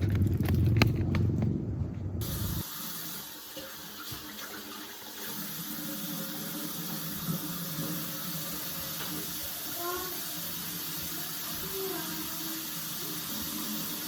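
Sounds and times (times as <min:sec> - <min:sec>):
tap water running: 0:02.2 - 0:14.0.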